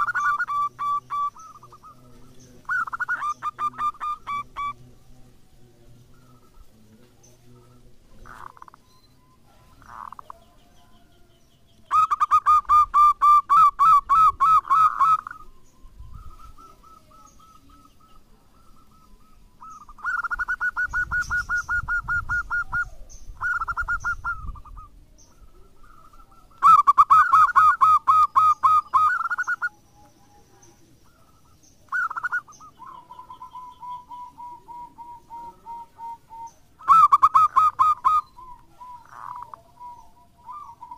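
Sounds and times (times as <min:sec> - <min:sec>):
dove rhythmic cooing: 0:00.0 - 0:40.9.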